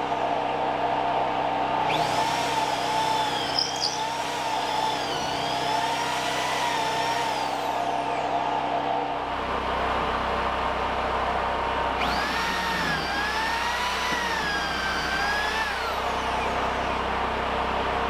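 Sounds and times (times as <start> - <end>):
motor-driven machine running: 1.9 - 8.3, 9.4 - 18.0.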